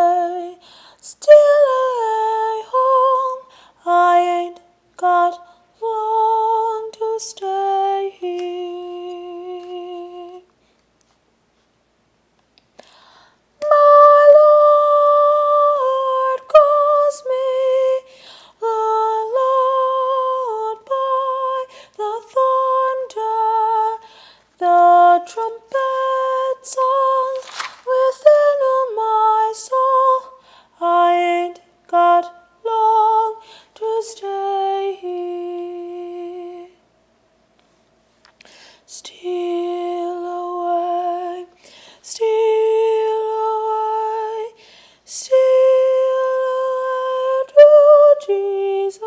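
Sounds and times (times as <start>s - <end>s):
woman singing wordless melody: 0.0s - 10.7s, 13.6s - 36.9s, 38.4s - 49.0s.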